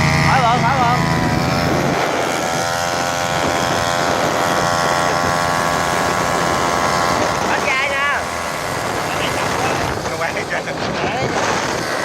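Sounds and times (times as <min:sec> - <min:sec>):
small engine buzzing drone: 0:00.0 - 0:12.0.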